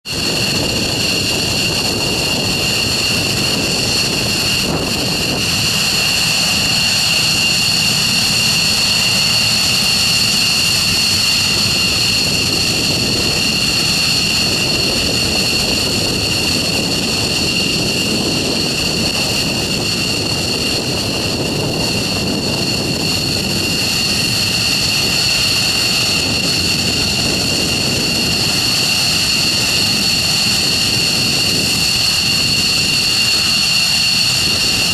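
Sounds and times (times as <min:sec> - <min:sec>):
jet engines roaring with whine: 0:00.0 - 0:34.9.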